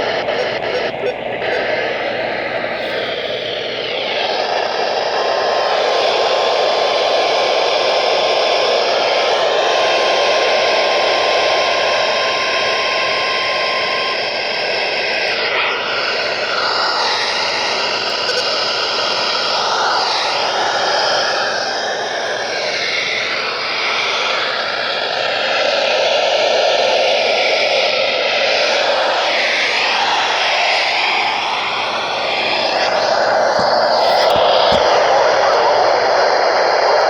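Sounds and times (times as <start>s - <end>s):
faint wavering tones: 0.0s - 35.8s
faint steady tone: 0.0s - 36.0s
radio static hiss: 0.0s - 37.0s.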